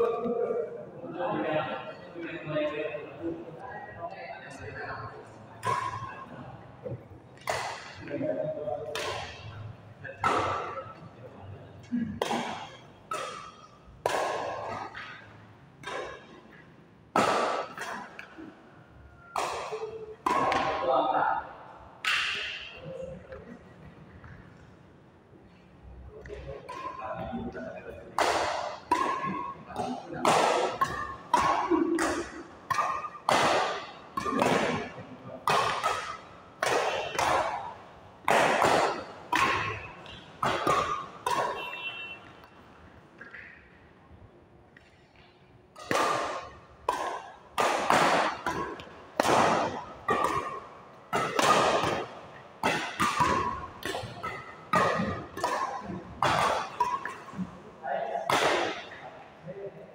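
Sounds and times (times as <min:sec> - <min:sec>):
racket hitting shuttlecock: 0:05.6 - 0:11.1, 0:12.2 - 0:20.9, 0:22.0 - 0:24.4, 0:26.2 - 0:27.3, 0:27.9 - 0:43.8, 0:44.7 - 0:59.3.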